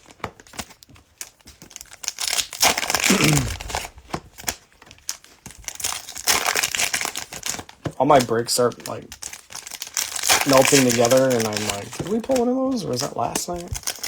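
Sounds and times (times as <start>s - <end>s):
plastic wrappers crinkling and tearing: 0.0s - 14.0s
trading cards handled: 0.0s - 14.0s.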